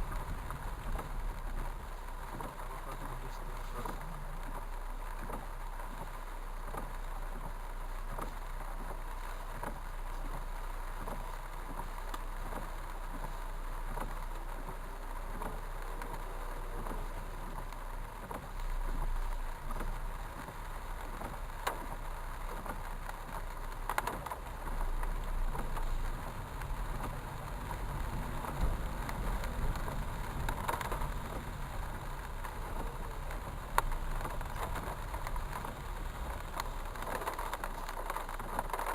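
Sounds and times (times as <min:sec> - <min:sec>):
heavy rain: 0:00.0 - 0:38.9
traffic on wet streets: 0:00.0 - 0:38.9.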